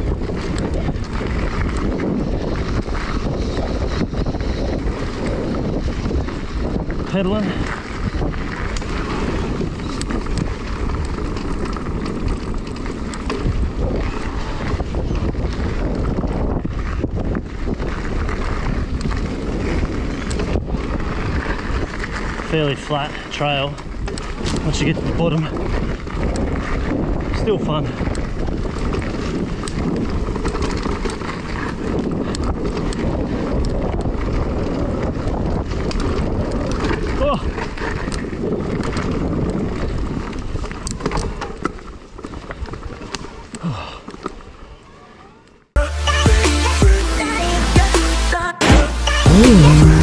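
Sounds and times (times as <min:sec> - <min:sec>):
wind noise on microphone: 0:00.0 - 0:44.9, 0:48.6 - 0:50.0
bike clicks and rattles: 0:00.0 - 0:45.8
bike tyres rolling on dirt: 0:00.0 - 0:45.8.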